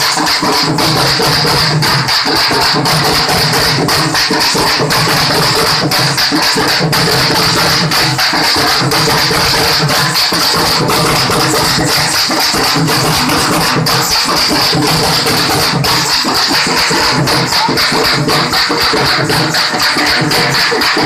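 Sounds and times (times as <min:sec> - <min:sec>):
drummers beating large drums: 0:00.0 - 0:21.0.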